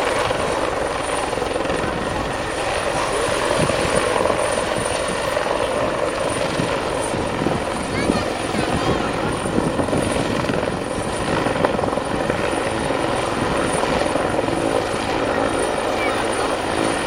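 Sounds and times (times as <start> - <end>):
helicopter rotor and engine noise: 0.0 - 17.0
high steady turbine whine: 0.0 - 17.0.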